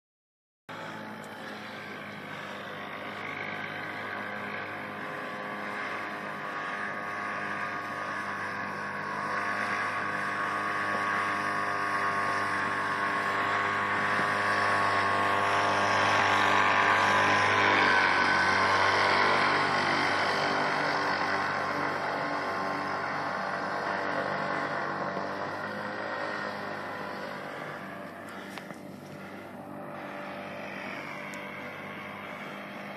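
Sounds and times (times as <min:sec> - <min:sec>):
paramotor engine drone overhead: 0:00.7 - 0:32.9.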